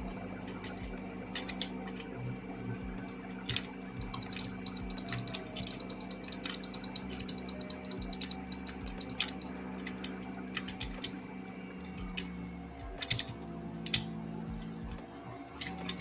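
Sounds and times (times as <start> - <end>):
computer clicks: 0.0 - 16.0.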